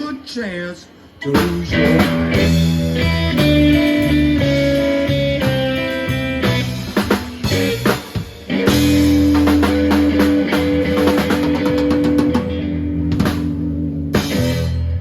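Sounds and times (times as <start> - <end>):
blues band playing: 1.2 - 15.0.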